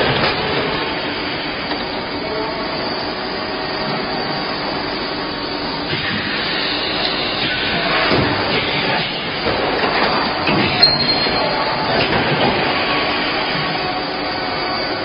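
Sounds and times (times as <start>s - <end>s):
blow-moulding machine running: 0.0s - 15.0s.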